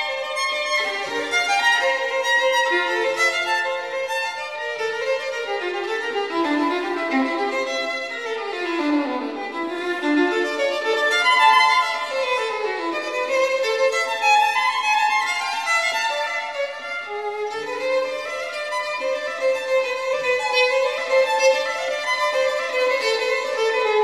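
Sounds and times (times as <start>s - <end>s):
violin melody: 0.0s - 24.0s.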